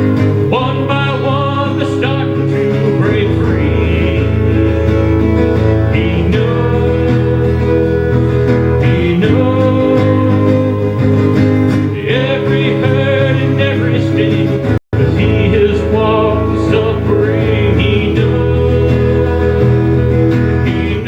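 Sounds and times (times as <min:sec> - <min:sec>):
guitar playing: 0:00.0 - 0:21.0
worship song instrumental: 0:00.0 - 0:21.0.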